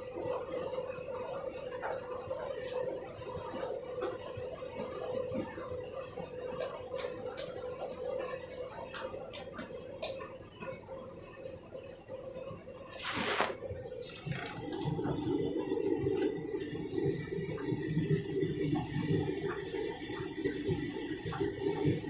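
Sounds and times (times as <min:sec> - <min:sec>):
water sloshing in washing machine: 0:00.0 - 0:11.3, 0:12.7 - 0:22.0.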